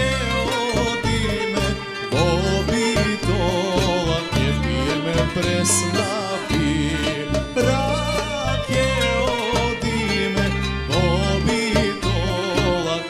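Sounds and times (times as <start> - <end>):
accordion: 0.0 - 13.0
drums and bass beat: 0.0 - 13.0
electric guitar: 0.0 - 13.0
man singing: 0.0 - 13.0
violin: 0.0 - 13.0.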